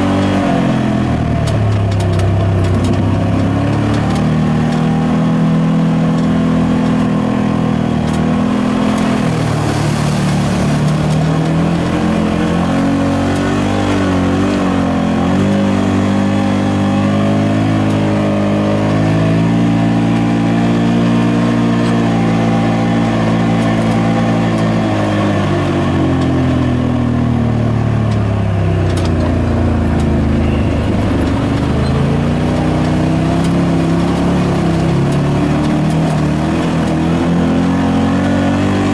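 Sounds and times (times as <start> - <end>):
utv engine running: 0.0 - 38.9.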